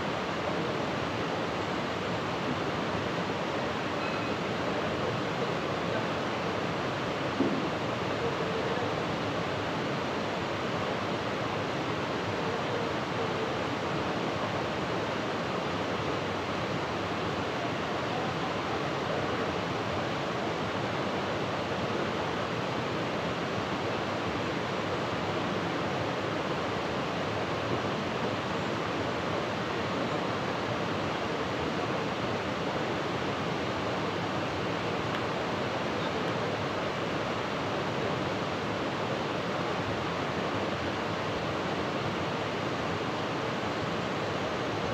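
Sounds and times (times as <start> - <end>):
water rushing: 0.0 - 44.9.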